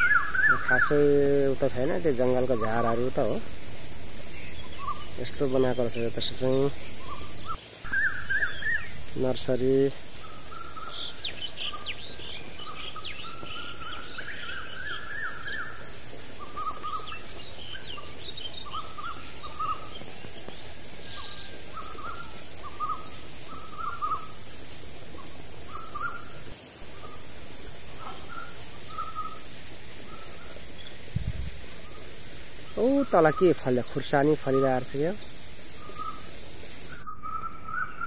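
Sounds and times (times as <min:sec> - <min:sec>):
birds chirping: 0:00.0 - 0:38.0
high-pitched insect drone: 0:00.0 - 0:38.0.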